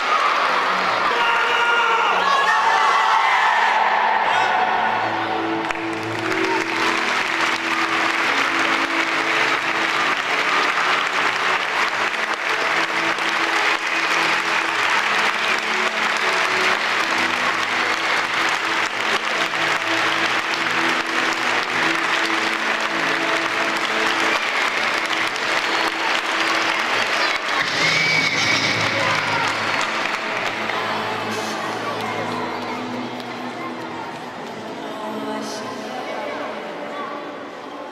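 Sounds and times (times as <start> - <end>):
crowd applauding: 0.0 - 1.5, 4.4 - 34.4
music playing: 0.0 - 37.9.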